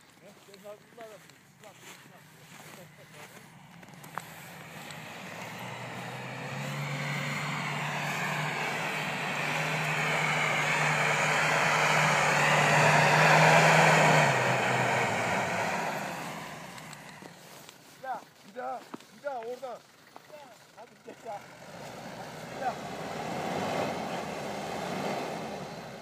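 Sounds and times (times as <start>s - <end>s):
off-road vehicle engine: 0.0s - 26.0s.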